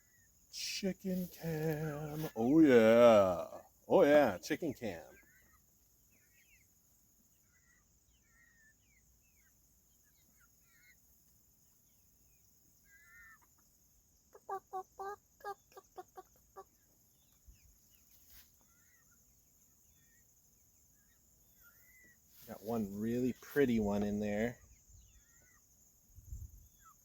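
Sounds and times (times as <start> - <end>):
chickens clucking: 0.0 - 27.0
soft chirping calls: 0.0 - 27.0.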